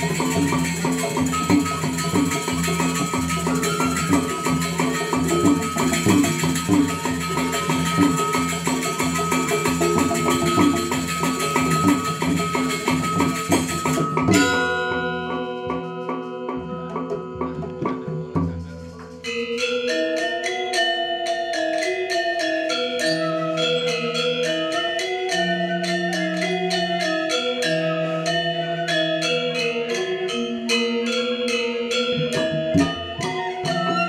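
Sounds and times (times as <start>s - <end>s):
gamelan orchestra playing: 0.0s - 34.0s
ringing metallophone tones: 0.0s - 34.0s.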